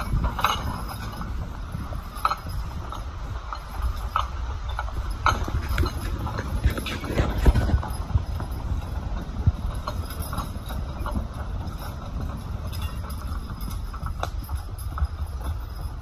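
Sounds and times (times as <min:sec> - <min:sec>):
log dragging along ground: 0:00.0 - 0:15.4
cart rolling with low rumble: 0:00.0 - 0:16.0
horse hooves clopping on dirt: 0:00.0 - 0:16.0.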